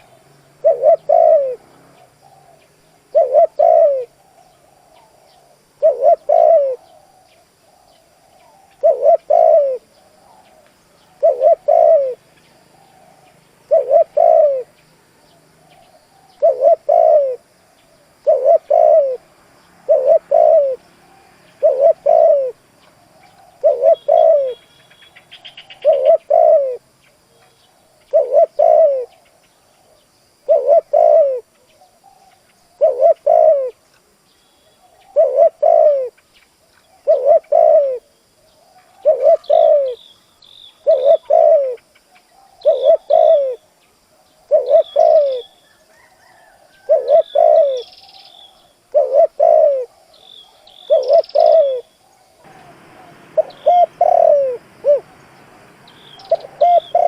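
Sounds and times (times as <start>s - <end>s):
dove cooing: 0.0s - 17.6s, 18.2s - 26.9s, 28.0s - 33.8s, 34.8s - 36.2s, 36.9s - 40.0s, 40.8s - 43.7s, 44.4s - 57.0s.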